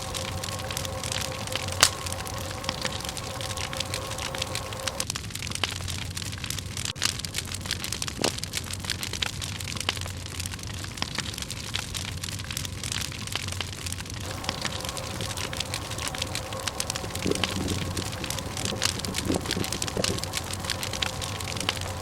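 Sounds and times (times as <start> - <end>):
campfire crackling and popping: 0.0 - 22.0
loud wood crack: 0.0 - 22.0.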